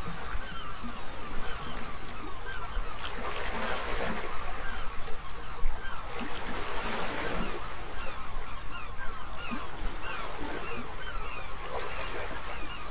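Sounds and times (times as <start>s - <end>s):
gulls calling: 0.0s - 12.9s.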